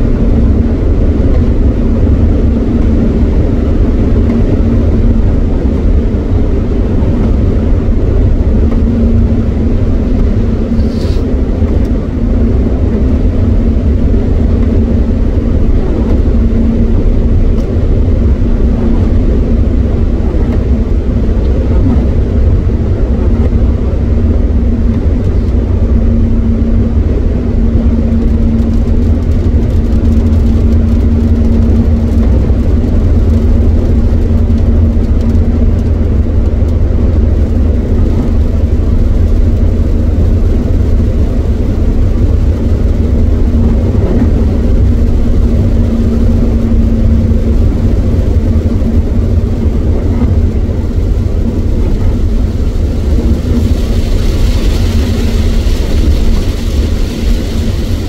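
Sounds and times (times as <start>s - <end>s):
drivetrain hum: 0.0s - 58.0s
tyres rumbling on wet road: 0.0s - 58.0s.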